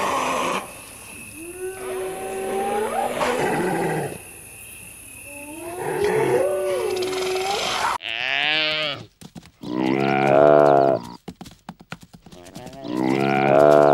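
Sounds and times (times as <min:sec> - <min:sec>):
animal calling: 0:00.0 - 0:04.2, 0:05.2 - 0:11.2, 0:12.3 - 0:13.9.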